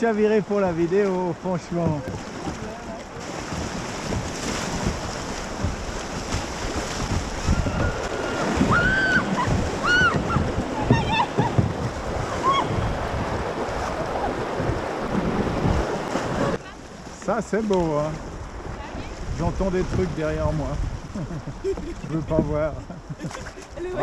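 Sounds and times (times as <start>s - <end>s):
river water rushing and splashing: 0.0s - 24.0s
wind buffeting microphone: 0.7s - 16.6s, 17.8s - 24.0s.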